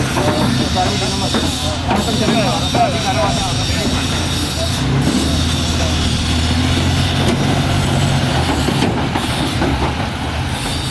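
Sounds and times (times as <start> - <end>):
travel noise: 0.0 - 10.9
vehicle engine humming: 0.0 - 10.9.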